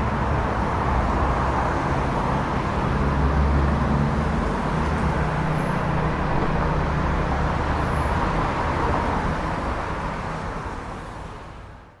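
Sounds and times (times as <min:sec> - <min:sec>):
road traffic roar: 0:00.0 - 0:12.0.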